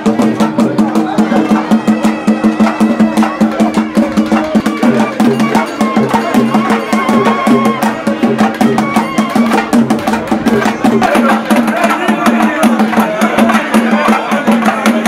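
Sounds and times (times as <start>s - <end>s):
fast drum beat: 0.0s - 15.0s.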